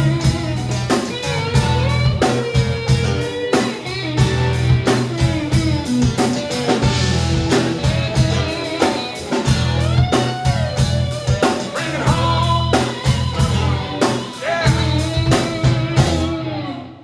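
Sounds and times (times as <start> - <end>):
steady drum beat: 0.0 - 16.3
bass: 0.0 - 16.8
electric guitar with bent notes: 0.0 - 17.0.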